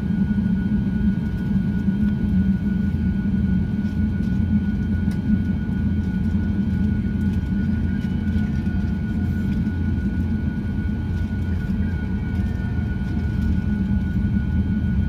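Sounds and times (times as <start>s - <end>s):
low engine and airflow rumble: 0.0s - 15.0s.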